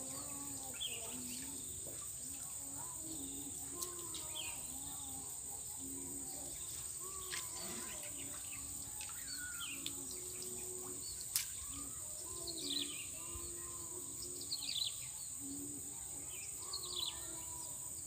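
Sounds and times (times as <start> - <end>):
birds chirping and warbling: 0.0 - 18.0
high insect drone: 0.0 - 18.0.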